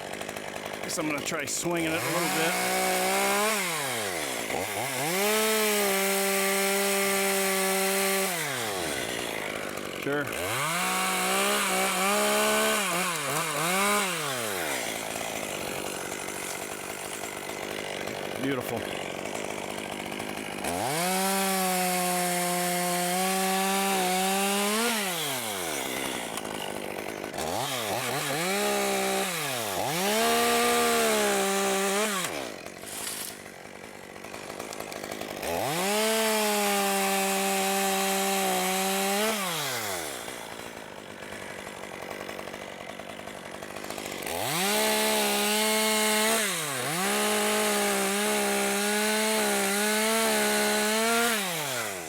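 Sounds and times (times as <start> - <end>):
chainsaw cutting wood: 0.0 - 52.0
chainsaw idling: 0.0 - 52.0.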